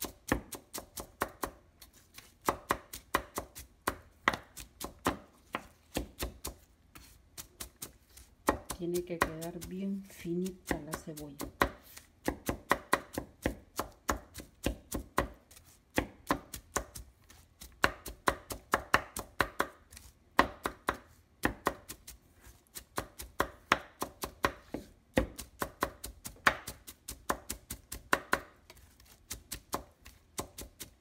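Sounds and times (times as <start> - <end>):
knife chopping on wooden board: 0.0 - 22.0, 22.8 - 31.0.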